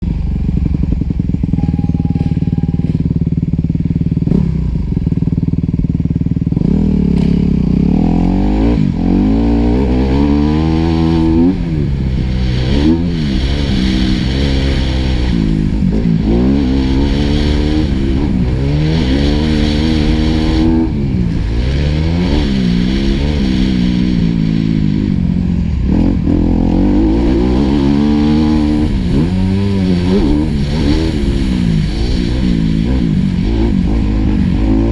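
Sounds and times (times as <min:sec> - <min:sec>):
motocross bike engine: 0:00.0 - 0:34.9.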